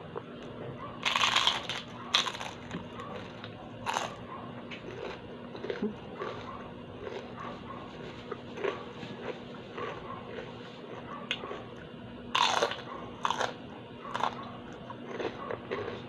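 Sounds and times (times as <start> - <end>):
crispy fried leaves crunching: 1.0 - 11.6, 12.3 - 16.0.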